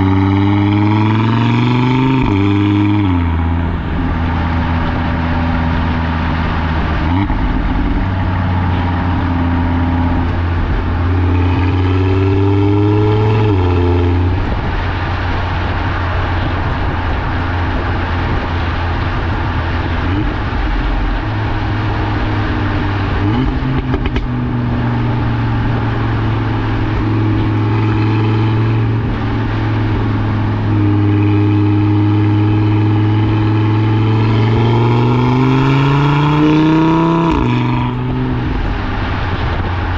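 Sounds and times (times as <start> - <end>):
car exhaust accelerating and shifting gears: 0.0 - 39.9.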